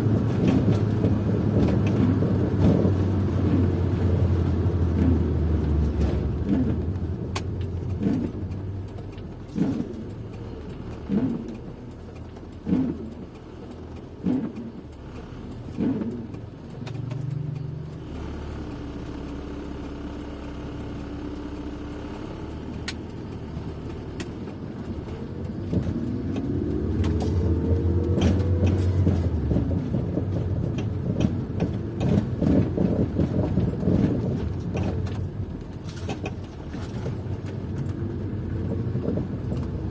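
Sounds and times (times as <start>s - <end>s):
car engine accelerating: 0.0s - 39.9s
car engine and road drone: 0.0s - 39.9s.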